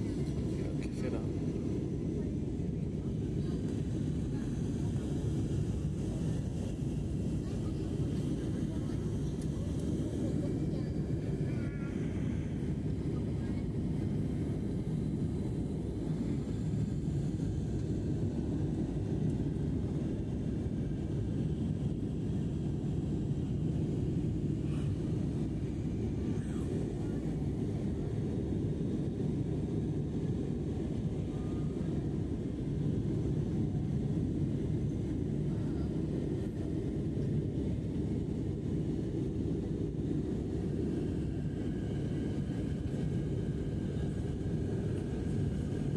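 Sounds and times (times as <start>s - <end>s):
airliner cabin drone: 0.0s - 45.9s.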